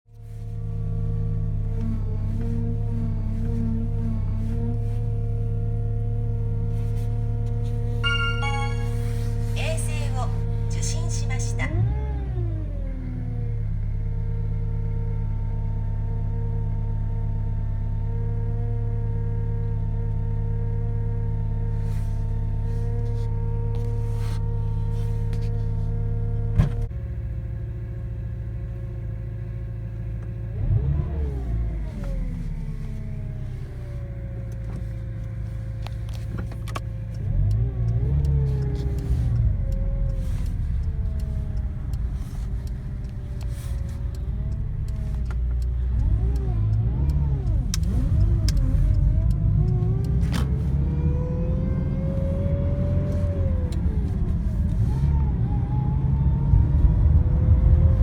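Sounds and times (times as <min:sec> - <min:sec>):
car engine hum: 0:00.2 - 0:58.0.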